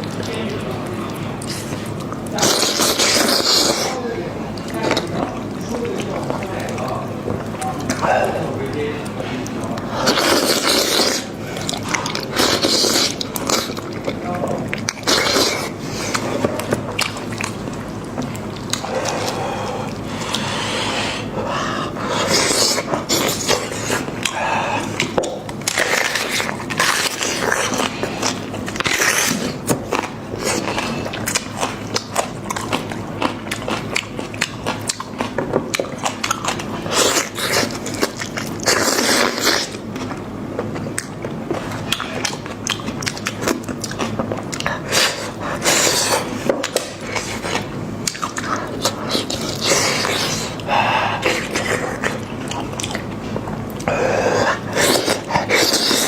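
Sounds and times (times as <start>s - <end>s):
person chewing and biting: 0.0s - 56.0s.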